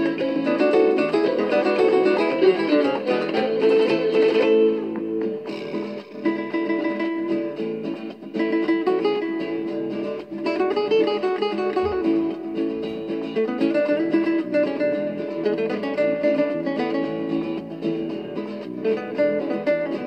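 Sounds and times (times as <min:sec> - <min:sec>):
flamenco acoustic guitar music: 0:00.0 - 0:20.0.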